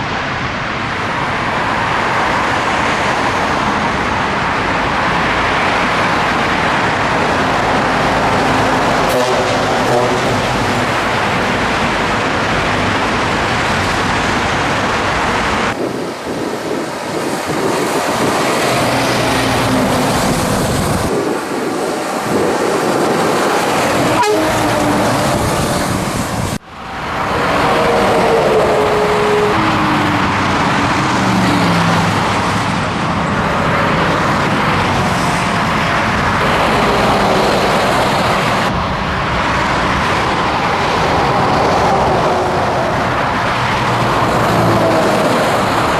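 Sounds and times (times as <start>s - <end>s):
road noise: 0.0s - 45.9s
truck engine: 0.0s - 45.9s.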